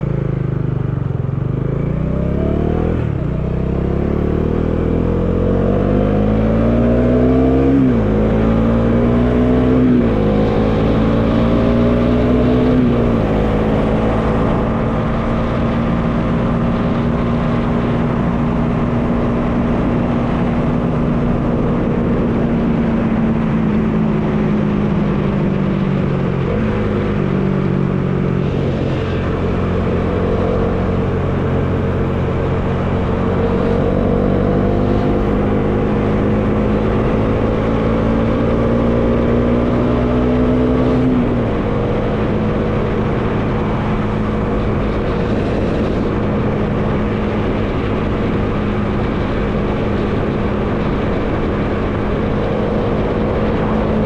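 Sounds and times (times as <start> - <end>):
motorcycle engine accelerating: 0.0 - 54.0
wind noise rushing: 4.6 - 54.0.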